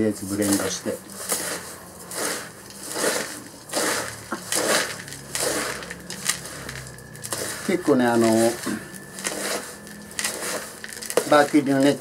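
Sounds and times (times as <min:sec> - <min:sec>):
metal scoop scraping gritty soil: 0:00.0 - 0:12.0.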